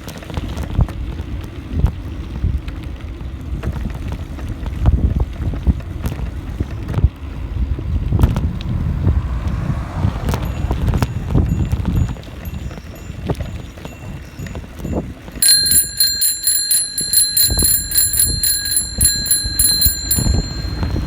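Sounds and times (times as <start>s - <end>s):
wind buffeting microphone: 0.4s - 21.0s.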